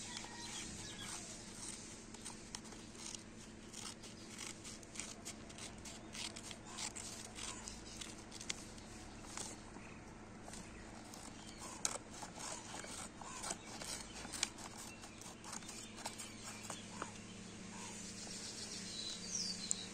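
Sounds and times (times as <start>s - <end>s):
scissors cutting paper: 0.1s - 9.6s, 10.4s - 17.1s.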